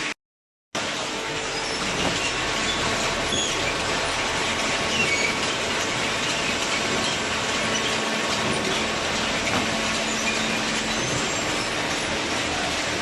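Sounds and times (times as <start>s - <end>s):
baler machine din: 0.8s - 13.0s.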